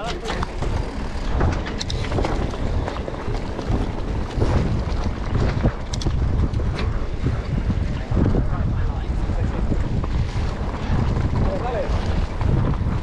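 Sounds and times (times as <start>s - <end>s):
bike clicks and rattles: 0.0s - 13.0s
wind rushing over microphone: 0.0s - 13.0s.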